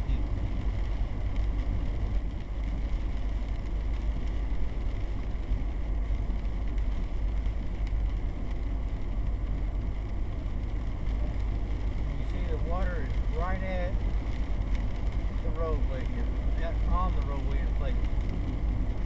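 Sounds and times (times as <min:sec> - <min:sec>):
tyre noise on wet road: 0:00.0 - 0:19.0.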